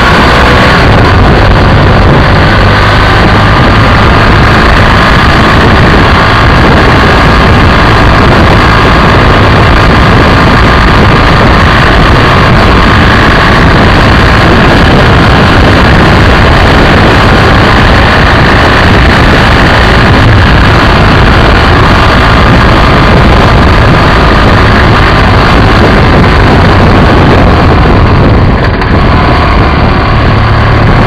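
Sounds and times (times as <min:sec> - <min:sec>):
motorcycle engine running: 0:00.0 - 0:31.0
road noise: 0:00.0 - 0:31.0
wind noise: 0:00.0 - 0:31.0.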